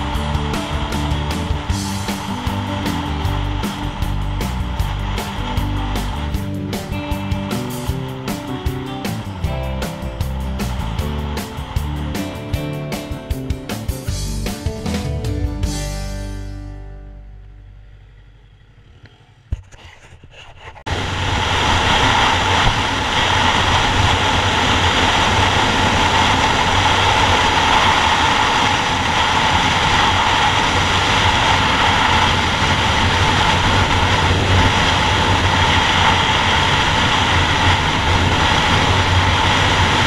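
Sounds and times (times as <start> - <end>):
wind rush: 0.0 - 14.0, 20.1 - 40.0
motorcycle engine cruising: 0.0 - 19.6, 21.0 - 40.0.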